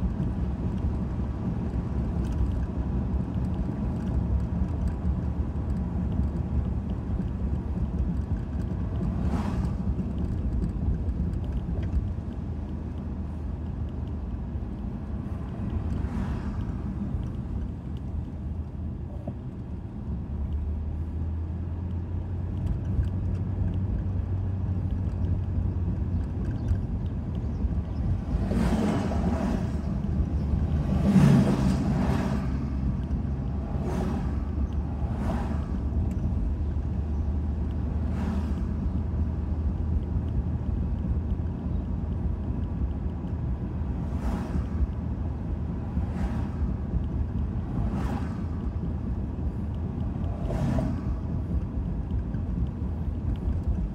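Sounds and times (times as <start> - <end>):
car cabin road rumble: 0.0 - 53.9.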